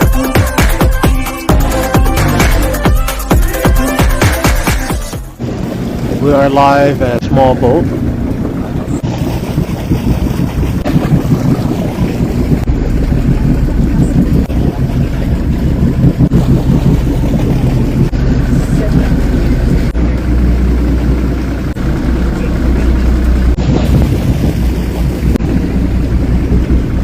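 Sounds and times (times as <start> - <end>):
motorboat engine running: 0.0 - 27.0.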